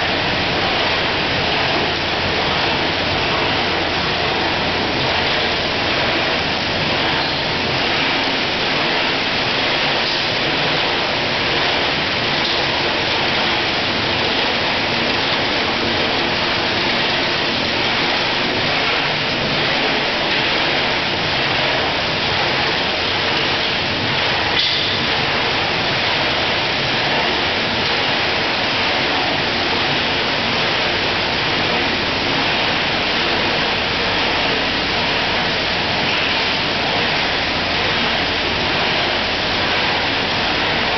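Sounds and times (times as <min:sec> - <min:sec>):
running machinery: 0:00.0 - 0:40.9
rushing water: 0:00.0 - 0:40.9.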